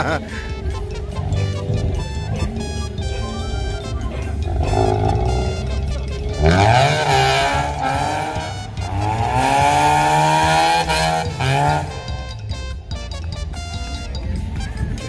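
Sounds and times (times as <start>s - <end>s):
rotary engine revving hard: 0.0s - 12.3s.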